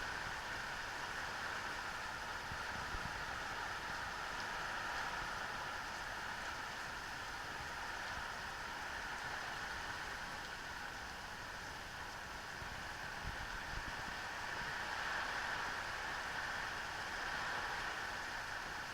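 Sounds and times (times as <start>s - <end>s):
rain hiss: 0.0s - 18.9s.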